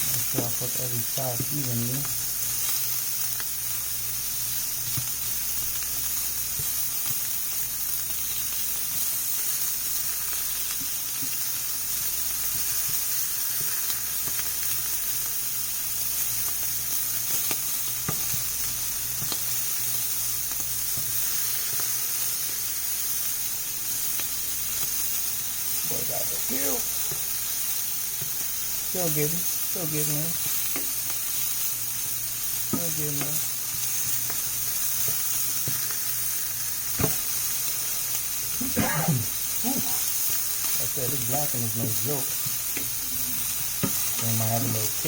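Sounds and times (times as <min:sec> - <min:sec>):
shrimp sizzling in a frying pan: 0:00.0 - 0:45.0.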